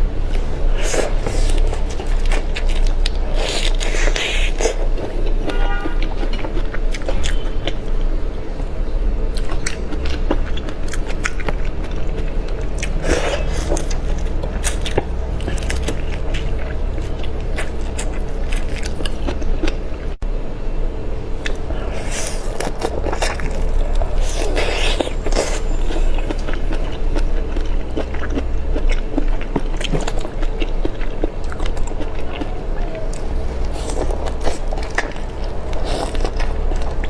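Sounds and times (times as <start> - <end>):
low steady hum: 0.0 - 37.0
chewing crunchy shrimp shells: 0.7 - 8.2, 9.3 - 20.1, 21.4 - 37.0.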